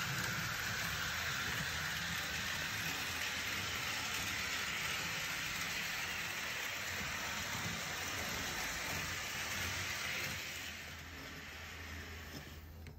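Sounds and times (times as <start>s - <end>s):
model train wheels on rails: 0.0s - 12.9s.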